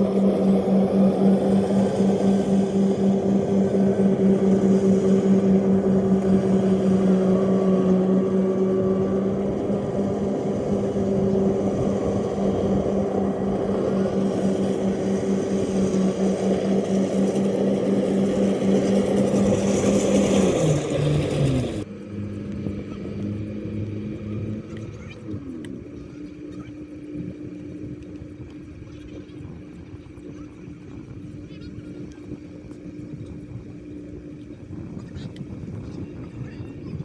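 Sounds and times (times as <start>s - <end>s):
combine harvester engine hum: 0.0s - 37.0s.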